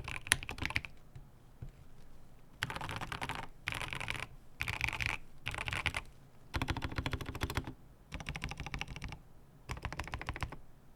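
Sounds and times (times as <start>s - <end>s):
typing on mechanical keyboard: 0.0s - 1.0s, 2.6s - 10.6s.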